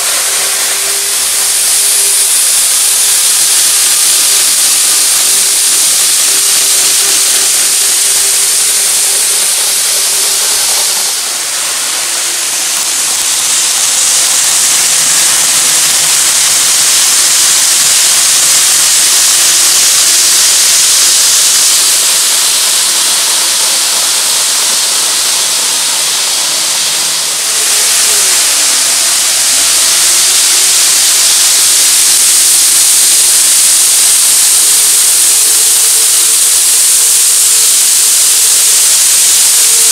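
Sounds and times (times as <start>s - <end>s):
model train wheels rushing on rail: 0.0s - 39.9s.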